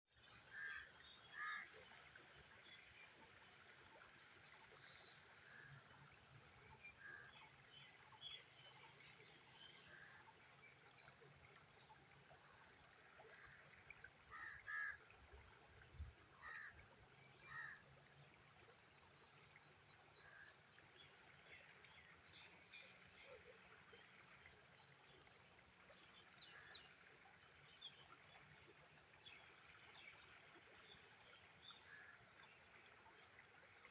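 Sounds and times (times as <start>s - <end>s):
water trickling: 0.1s - 33.9s.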